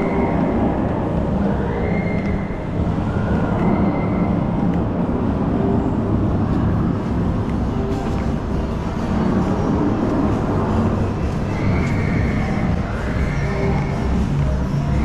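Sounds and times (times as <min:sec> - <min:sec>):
faint higher sounds: 0:00.0 - 0:15.0
low rumble: 0:00.0 - 0:15.0.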